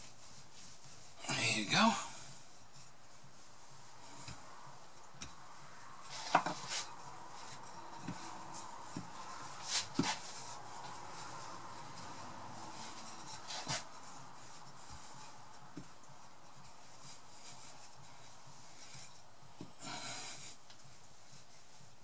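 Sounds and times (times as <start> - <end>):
rolling pin rubbing on pastry: 0.0 - 22.0.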